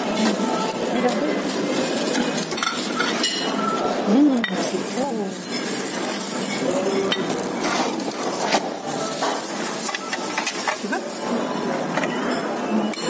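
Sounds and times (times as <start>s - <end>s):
food sizzling and frying: 0.0s - 12.6s
metal utensils clinking and scraping: 0.0s - 13.0s.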